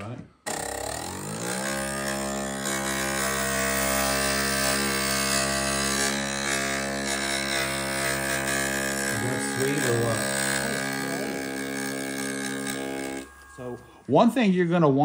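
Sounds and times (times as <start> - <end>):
grinder motor hum: 0.0 - 14.0
glass edge grinding rasp: 0.5 - 13.6.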